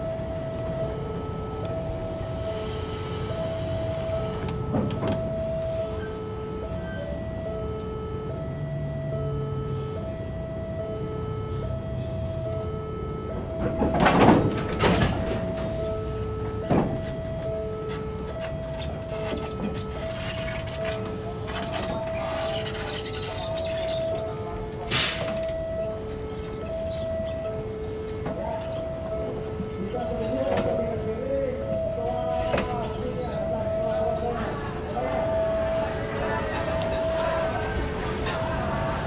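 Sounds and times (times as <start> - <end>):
train coaches rolling past: 0.0 - 7.5, 11.4 - 27.6, 28.2 - 39.0
two-tone electronic warning signal: 0.0 - 39.0.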